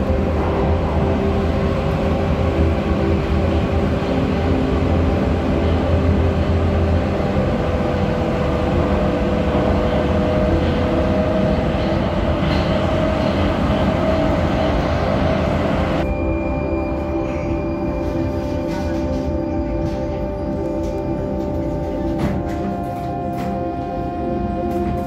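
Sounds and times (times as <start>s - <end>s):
metro train rumbling: 0.0s - 25.0s
train humming tone: 0.0s - 25.0s.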